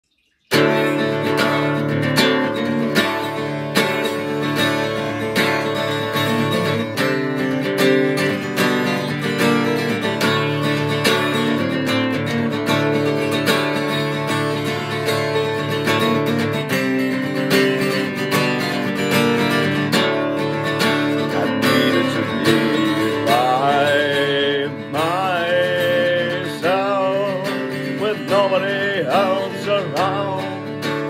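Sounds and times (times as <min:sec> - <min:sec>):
acoustic guitar chords: 0:00.5 - 0:31.0.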